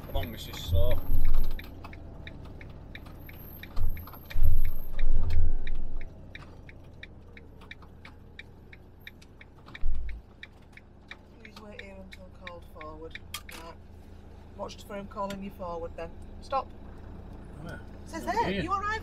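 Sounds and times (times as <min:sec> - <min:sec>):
turn indicator ticking: 0:00.0 - 0:19.0.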